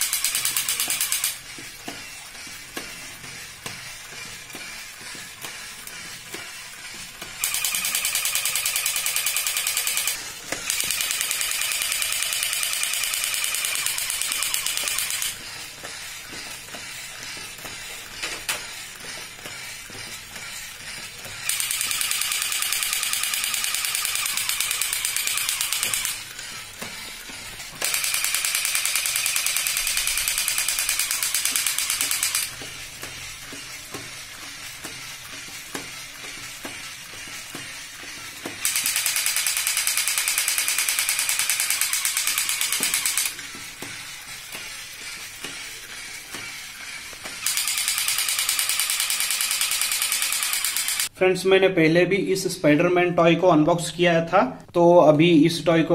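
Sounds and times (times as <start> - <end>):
toy mechanism clicking: 0.0 - 51.1.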